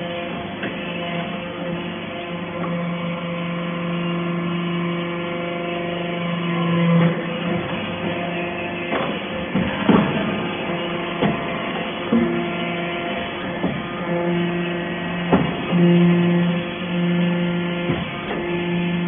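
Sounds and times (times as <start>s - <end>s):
hydraulic baler motor humming: 0.0s - 19.0s.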